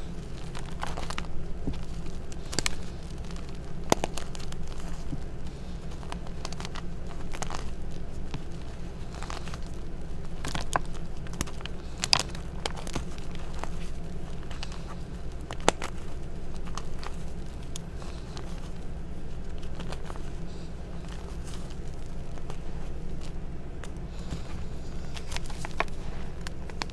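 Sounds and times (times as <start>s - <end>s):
chalk snapping: 0.0s - 26.9s.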